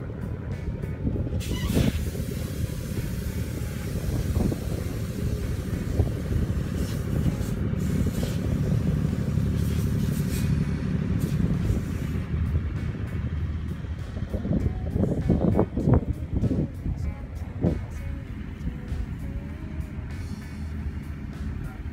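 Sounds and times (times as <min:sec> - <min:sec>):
vehicle rumbling over sand: 0:00.0 - 0:21.9
wind buffeting microphone: 0:00.0 - 0:21.9.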